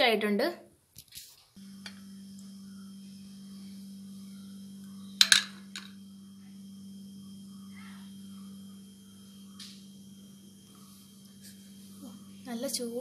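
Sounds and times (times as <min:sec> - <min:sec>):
steady low hum: 0:01.5 - 0:13.0.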